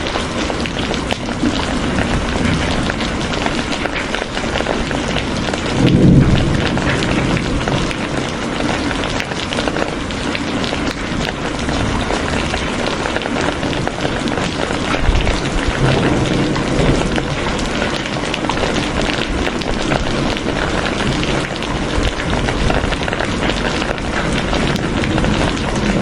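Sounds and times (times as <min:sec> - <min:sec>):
rain drops hitting a surface: 0:00.0 - 0:26.0.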